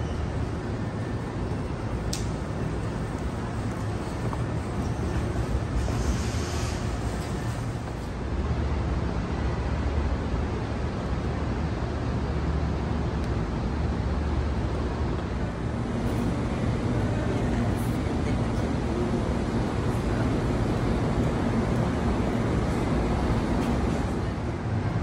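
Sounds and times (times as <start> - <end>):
low rumbling background noise: 0.0 - 25.0.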